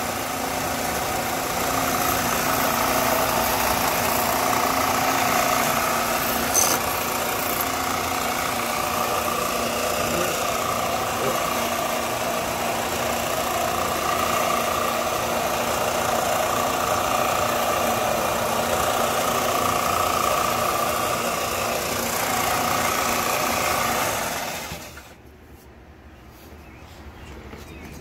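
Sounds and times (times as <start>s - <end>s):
power tool running and winding down: 0.0s - 25.2s.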